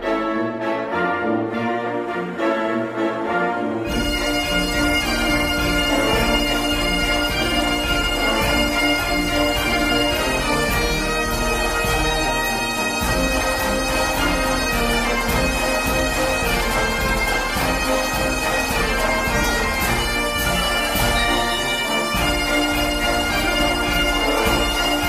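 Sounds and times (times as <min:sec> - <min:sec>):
bagpipes playing over drone: 0:03.9 - 0:25.0.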